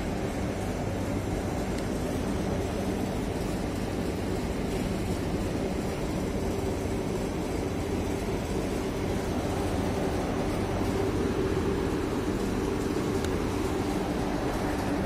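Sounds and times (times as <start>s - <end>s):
continuous low hum: 0.0s - 15.0s
machinery drone: 0.0s - 15.0s.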